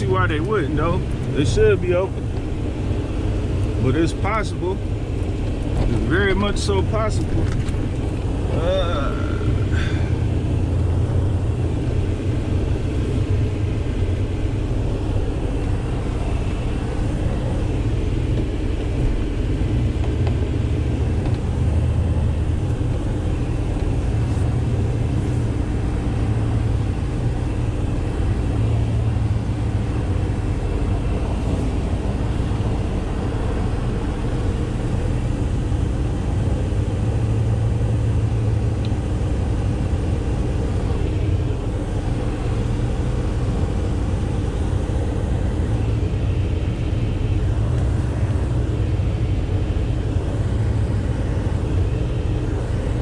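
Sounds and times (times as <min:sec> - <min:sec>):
truck engine and road rumble: 0:00.0 - 0:53.0.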